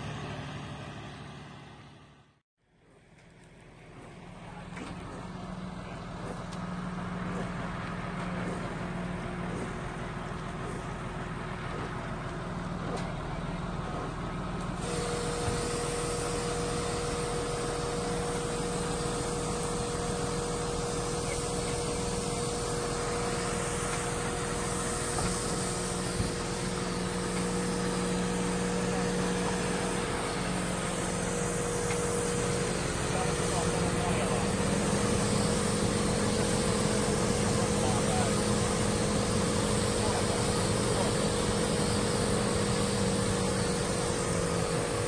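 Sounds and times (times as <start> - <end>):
heavy vehicle engine running: 0.0 - 45.0.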